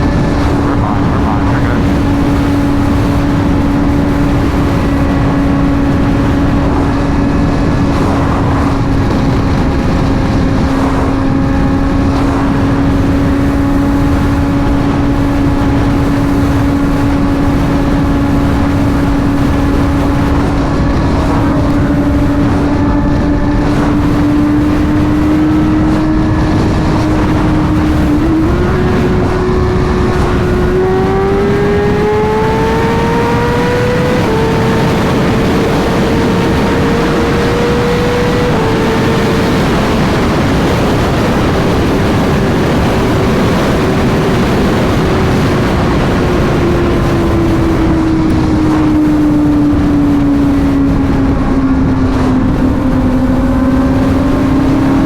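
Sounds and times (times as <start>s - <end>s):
motorcycle engine running hard: 0.0s - 55.0s
wind noise rushing: 0.0s - 55.0s.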